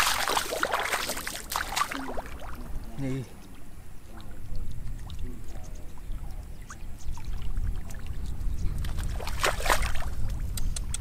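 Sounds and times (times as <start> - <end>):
muddy water sloshing and splashing: 0.0 - 10.6.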